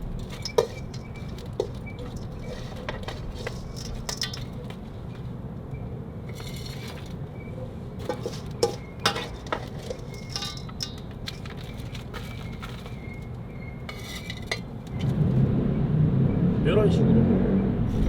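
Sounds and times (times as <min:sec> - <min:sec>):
rustle: 0:00.0 - 0:05.4, 0:06.3 - 0:15.5
plant pots clinking: 0:00.0 - 0:15.4.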